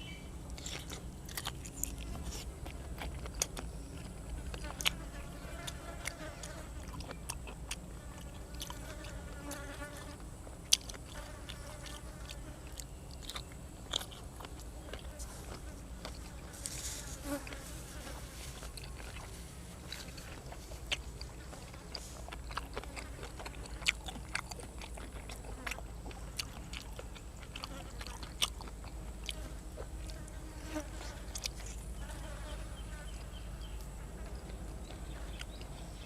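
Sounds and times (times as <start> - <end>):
steady low hum: 0.0 - 36.0
person chewing and crunching food: 0.5 - 31.9, 34.4 - 36.0.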